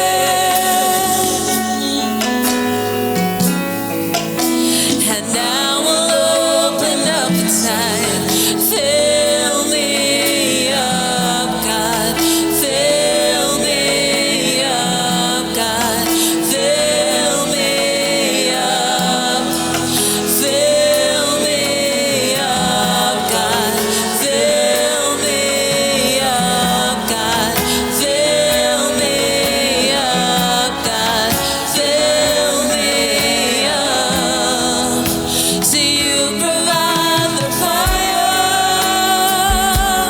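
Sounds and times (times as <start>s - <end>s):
gospel singing over instrumental backing: 0.0s - 40.0s.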